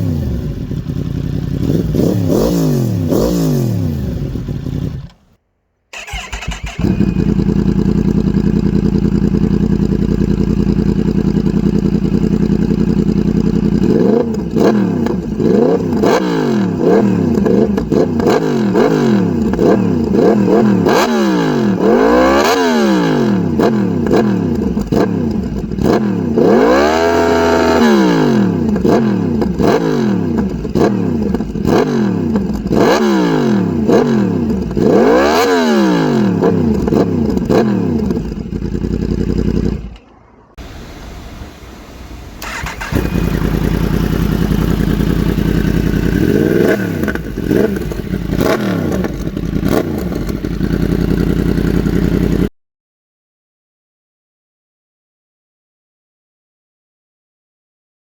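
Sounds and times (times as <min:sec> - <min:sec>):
motorcycle engine idling and revving: 0:00.0 - 0:52.5.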